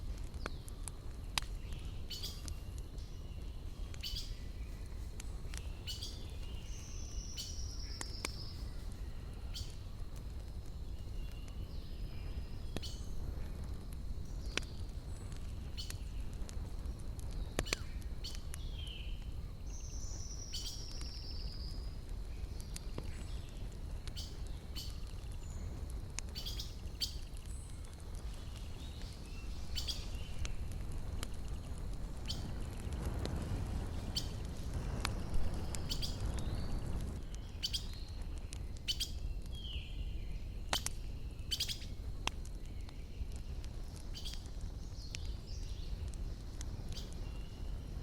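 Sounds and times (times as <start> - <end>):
wood fire crackling and popping: 0.0 - 48.0
small birds chirping: 0.1 - 48.0.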